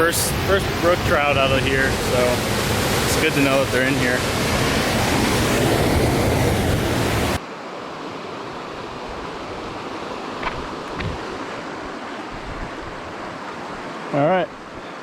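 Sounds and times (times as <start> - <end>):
stream and waterfall rushing: 0.0 - 15.0.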